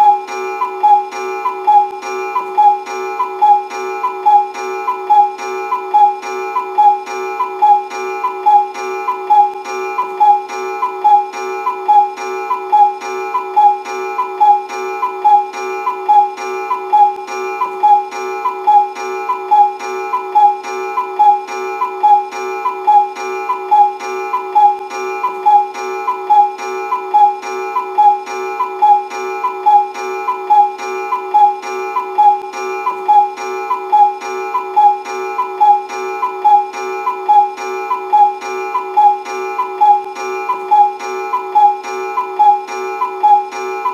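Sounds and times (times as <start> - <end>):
cuckoo clock sound effect: 0.0 - 43.9.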